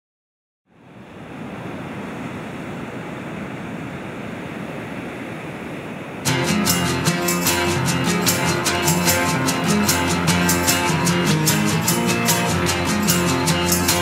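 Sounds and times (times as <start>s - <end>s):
steady rushing noise: 0.7s - 14.0s.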